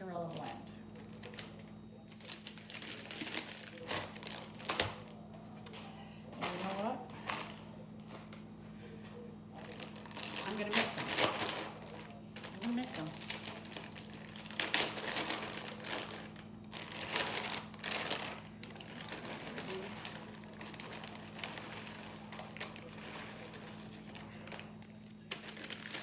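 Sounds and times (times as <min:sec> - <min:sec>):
plastic bags crinkling: 0:00.0 - 0:08.4, 0:09.5 - 0:26.0
steady low hum: 0:00.0 - 0:26.0.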